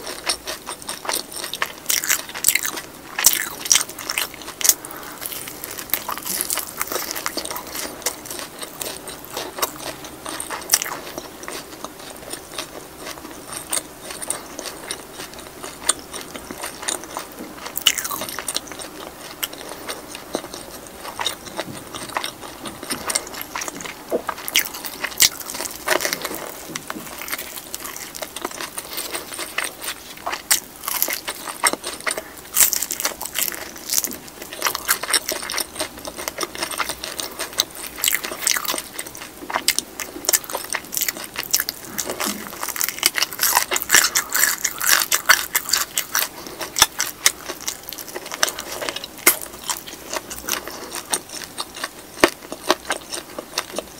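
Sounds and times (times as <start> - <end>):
chewing: 0.0 - 53.9
crunching bites into crisp chicken: 0.0 - 53.9.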